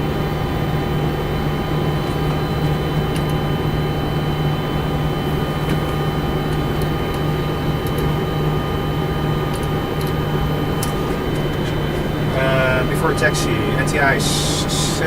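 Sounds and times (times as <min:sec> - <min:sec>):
low engine drone: 0:00.0 - 0:15.0
steady whining tones: 0:00.0 - 0:15.0.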